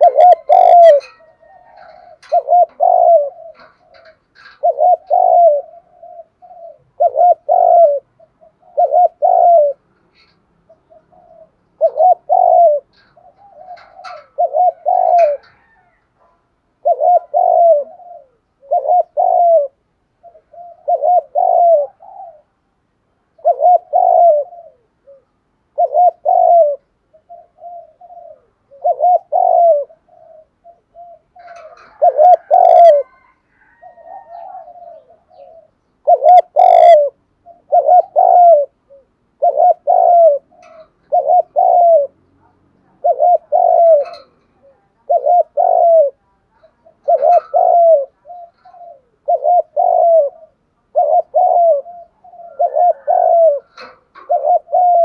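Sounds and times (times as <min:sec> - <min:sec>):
dove cooing: 0:00.0 - 0:22.7, 0:23.3 - 0:55.0.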